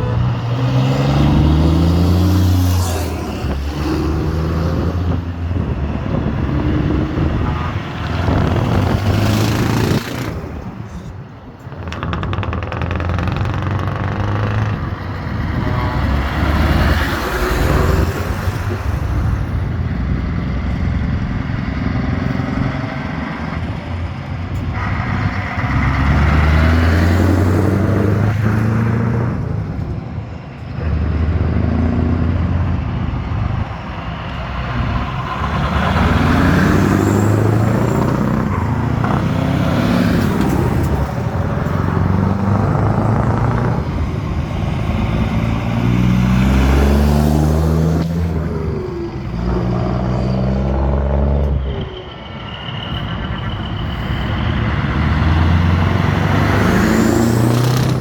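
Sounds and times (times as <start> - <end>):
trucks driving past: 0.0 - 58.0.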